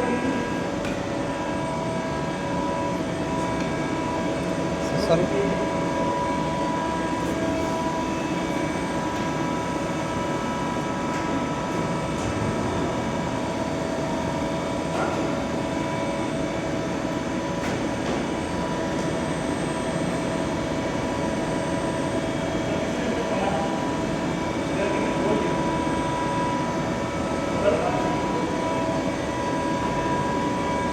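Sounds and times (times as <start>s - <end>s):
workshop machinery humming: 0.0s - 30.9s.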